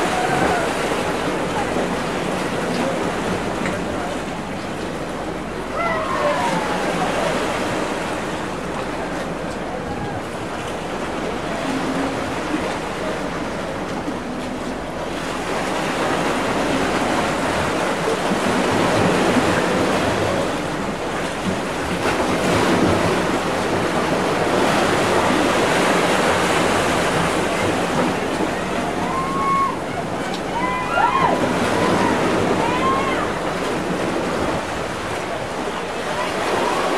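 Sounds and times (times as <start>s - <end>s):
sea waves: 0.0s - 36.9s
wind: 0.0s - 36.9s.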